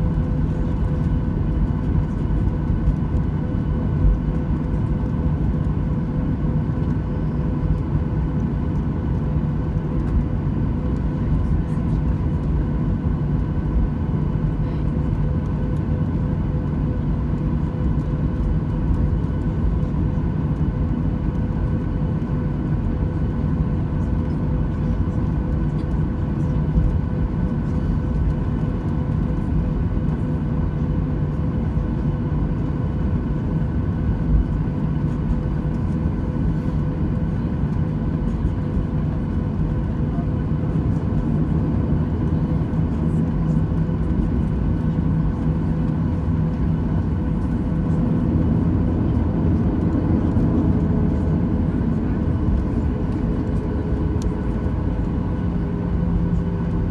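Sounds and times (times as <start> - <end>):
jet engine drone in cabin: 0.0 - 56.9.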